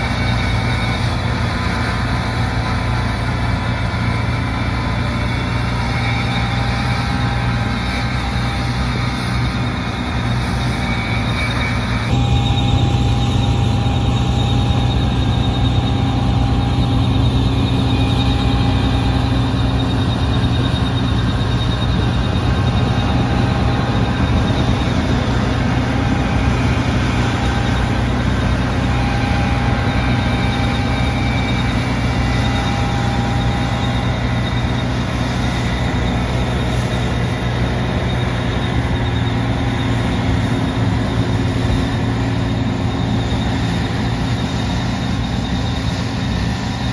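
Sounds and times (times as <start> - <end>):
combine harvester engine drone: 0.0 - 46.9
whining drives: 0.0 - 46.9.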